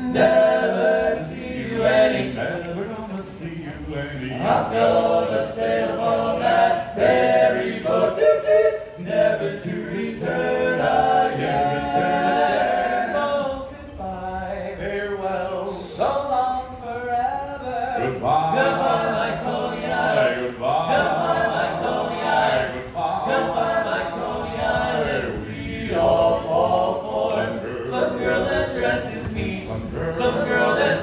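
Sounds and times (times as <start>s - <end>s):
men singing in close harmony: 0.0s - 31.0s.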